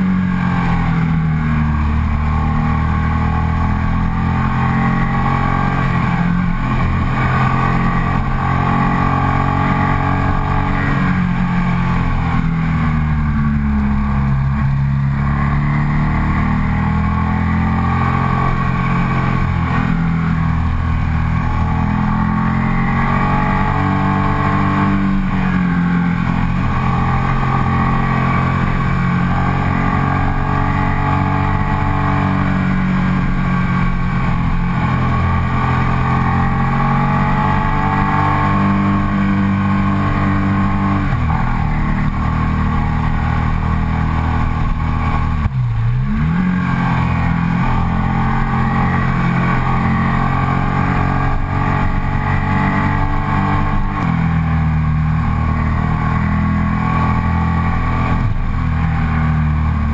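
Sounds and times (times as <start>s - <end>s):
motorcycle engine pulling uphill: 0.0s - 59.9s.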